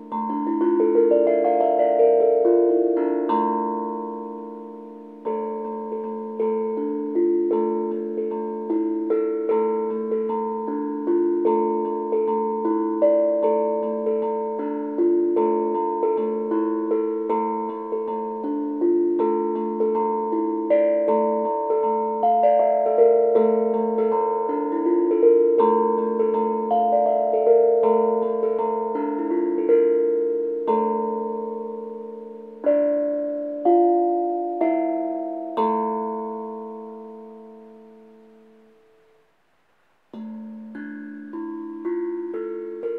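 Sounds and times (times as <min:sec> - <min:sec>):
steel tongue drum melody: 0:00.0 - 0:42.9.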